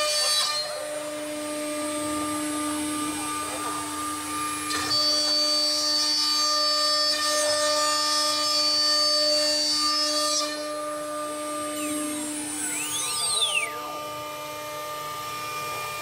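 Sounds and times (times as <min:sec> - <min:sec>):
router bit cutting wood: 0:00.0 - 0:16.0
router spindle whining: 0:00.0 - 0:16.0.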